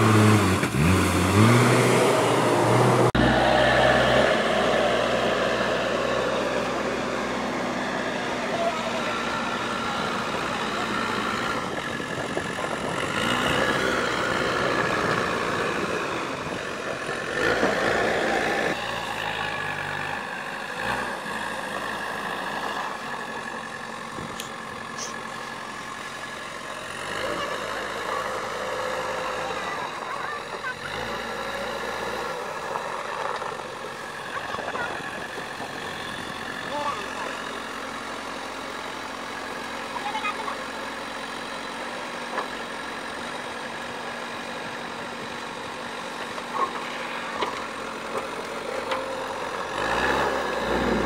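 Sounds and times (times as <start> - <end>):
diesel engine running under load: 0.0 - 51.0.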